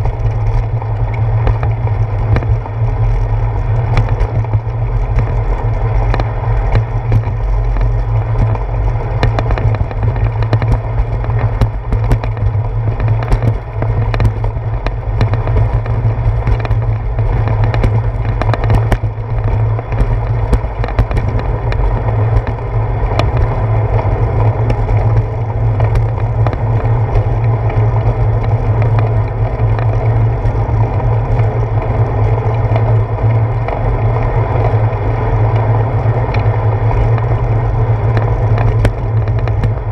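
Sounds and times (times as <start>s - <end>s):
bicycle tyre noise: 0.0s - 39.9s
wind rumble: 0.0s - 39.9s.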